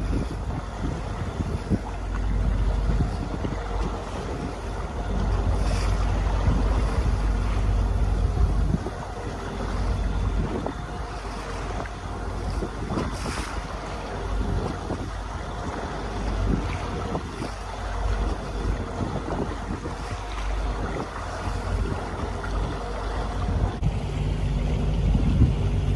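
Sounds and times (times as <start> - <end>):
small boat running on water: 0.0 - 25.9
wind buffeting microphone: 0.0 - 25.9.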